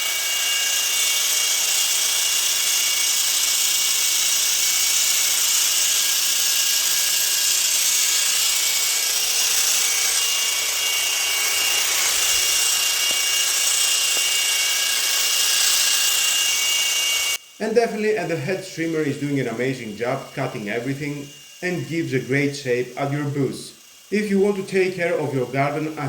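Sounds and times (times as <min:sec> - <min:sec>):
hedge trimmer running: 0:00.0 - 0:26.0.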